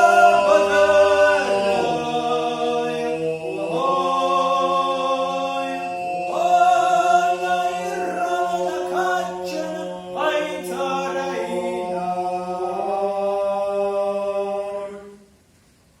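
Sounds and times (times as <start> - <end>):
male ensemble singing folk song: 0.0 - 15.2
low held vocal drone: 0.0 - 15.3.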